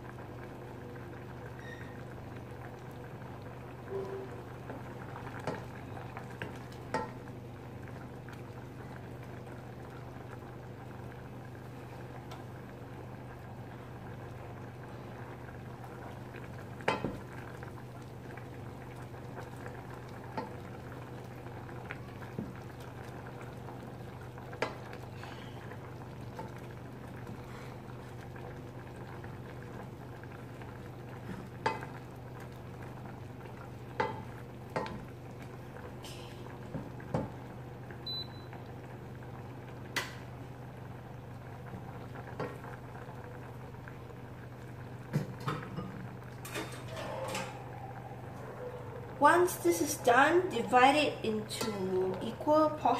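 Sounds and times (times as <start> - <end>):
sauce bubbling in a pot: 0.0 - 52.9.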